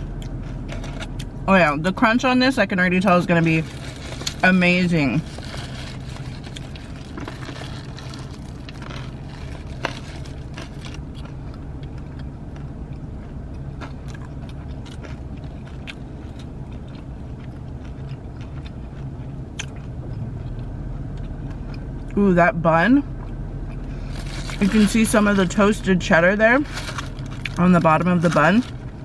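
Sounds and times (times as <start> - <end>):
biting and chewing crunchy food: 0.0 - 1.4, 3.1 - 22.2, 23.0 - 29.0
steady low hum: 0.0 - 29.0.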